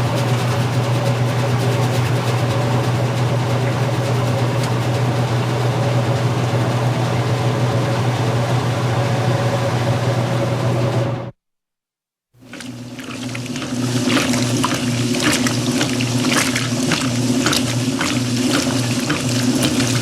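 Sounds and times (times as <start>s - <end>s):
washing machine motor hum: 0.0s - 11.3s, 12.4s - 20.0s.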